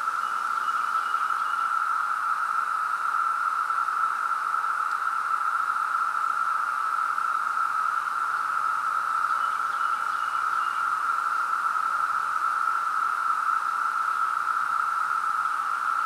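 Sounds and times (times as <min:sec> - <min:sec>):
cicadas droning chorus: 0:00.0 - 0:16.0.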